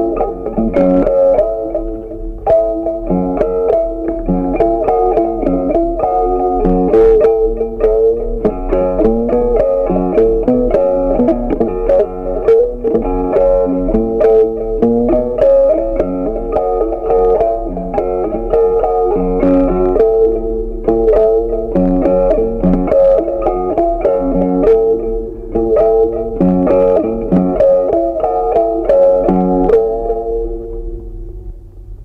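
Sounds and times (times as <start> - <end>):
plucked guitar melody: 0.0 - 32.0.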